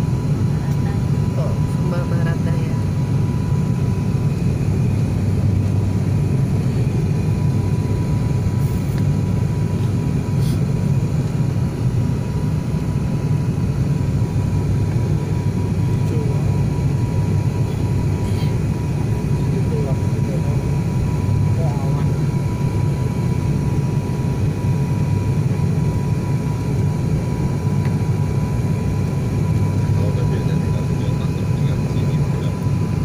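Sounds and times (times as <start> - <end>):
turboprop engine drone in cabin: 0.0 - 33.0.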